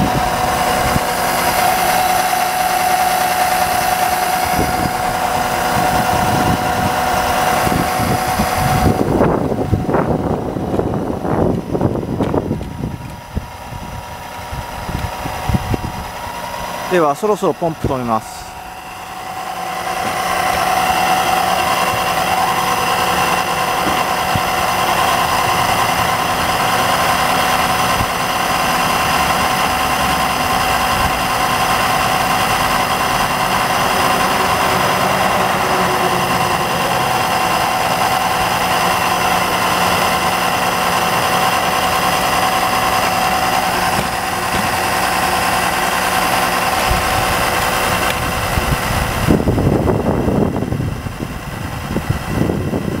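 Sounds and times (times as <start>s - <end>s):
fluid extraction pump humming: 0.0s - 53.0s.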